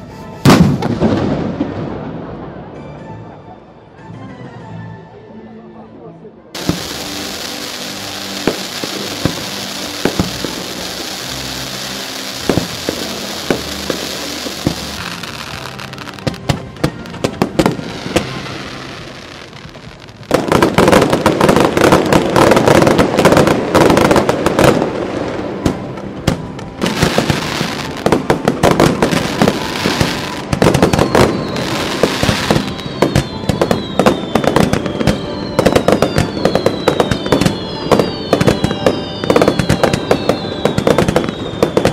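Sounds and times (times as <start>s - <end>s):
fireworks bursting: 0.0s - 2.1s, 6.6s - 41.9s
music: 0.0s - 41.9s
fireworks whistling: 6.6s - 41.9s.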